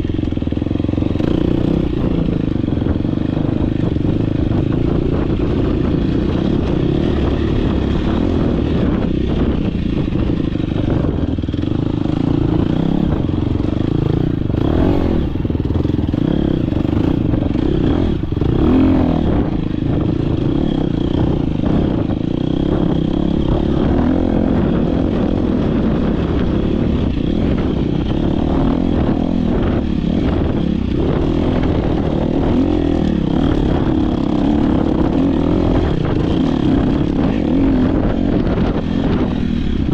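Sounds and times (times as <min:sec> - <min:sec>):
clatter and scraping on rough ground: 0:00.0 - 0:39.9
dirt bike engine revving: 0:00.0 - 0:39.9.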